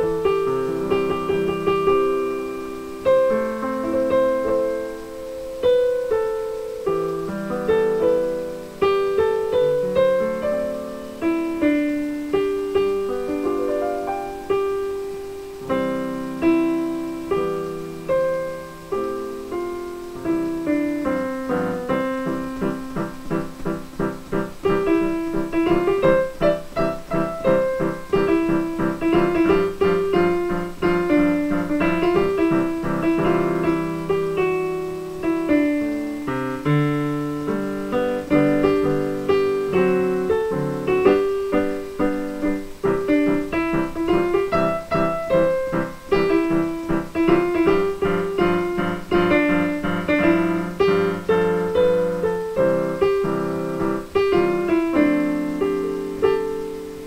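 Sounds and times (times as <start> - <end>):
digital piano playing: 0.0 - 57.0.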